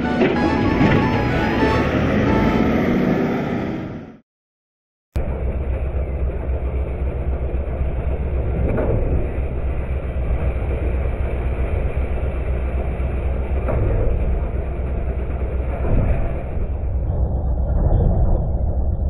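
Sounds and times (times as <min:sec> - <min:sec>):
garbage truck diesel engine: 0:00.0 - 0:04.2, 0:05.2 - 0:19.0
hydraulics running: 0:00.0 - 0:04.2, 0:05.2 - 0:19.0.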